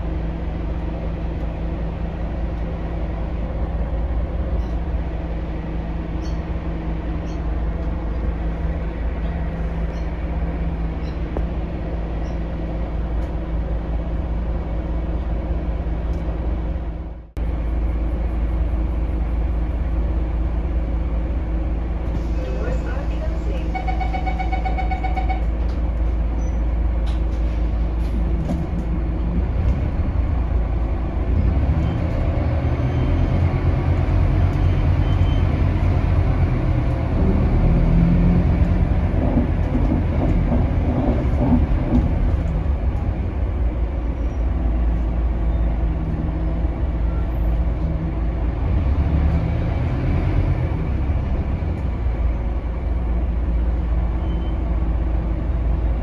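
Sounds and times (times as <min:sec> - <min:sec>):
bus diesel engine under load: 0:00.0 - 0:56.0.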